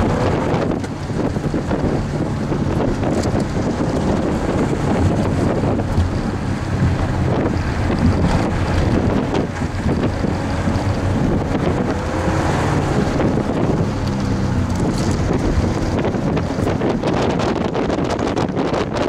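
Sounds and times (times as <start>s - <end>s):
car engine revving: 0.0s - 19.0s
wind noise on microphone: 0.0s - 19.0s.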